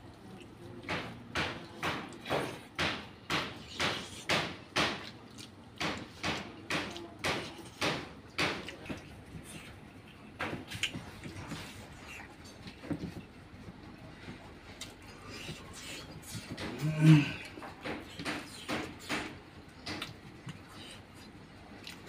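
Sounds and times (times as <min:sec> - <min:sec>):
person chewing with smacking: 0:00.0 - 0:22.0.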